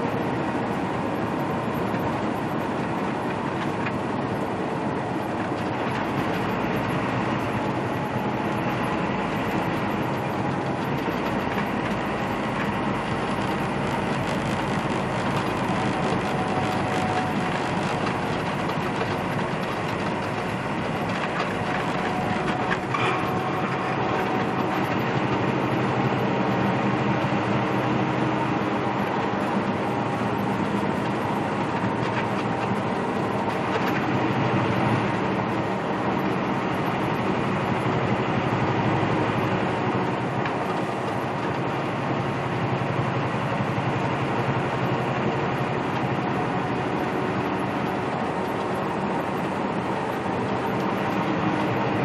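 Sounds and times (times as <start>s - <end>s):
truck engine drone in cab: 0.0s - 52.0s.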